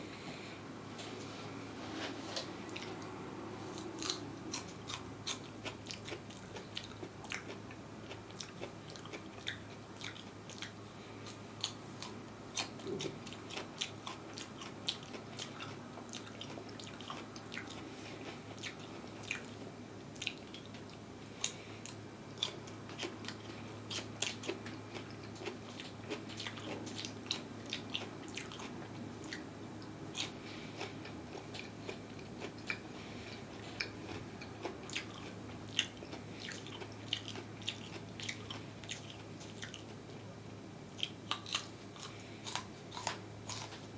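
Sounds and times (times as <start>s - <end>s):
crunchy food chewing: 2.4s - 43.9s.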